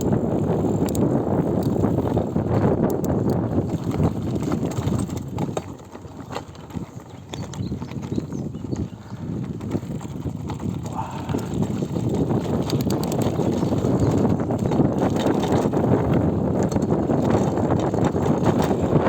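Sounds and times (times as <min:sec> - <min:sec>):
bike rattling clicks and knocks: 0:00.0 - 0:19.0
bike tyre rumble: 0:00.0 - 0:19.0.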